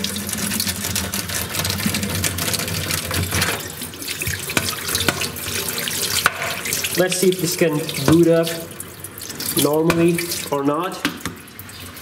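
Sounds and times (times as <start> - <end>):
tap water splashing into sink: 0.0 - 12.0.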